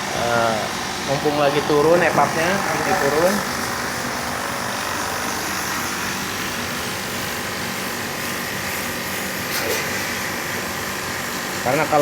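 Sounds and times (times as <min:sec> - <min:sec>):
motor humming and whirring: 0:00.0 - 0:12.0.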